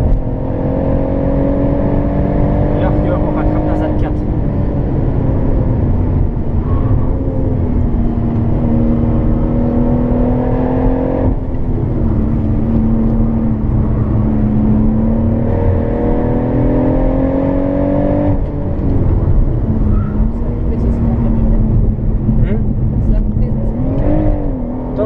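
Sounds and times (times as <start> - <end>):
car engine accelerating: 0.0 - 25.0
tyre and road noise: 0.0 - 25.0.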